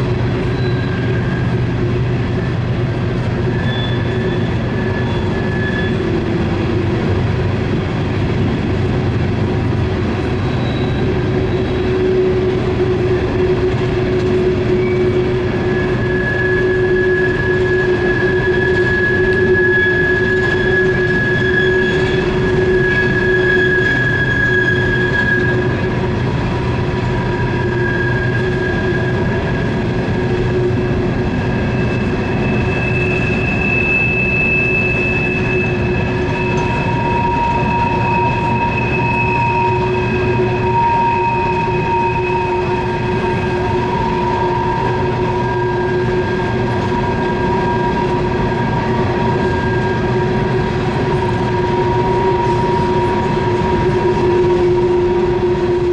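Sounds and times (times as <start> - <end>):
steel wheels rumbling on rail: 0.0 - 55.9
wheel flange squeal: 0.0 - 55.9.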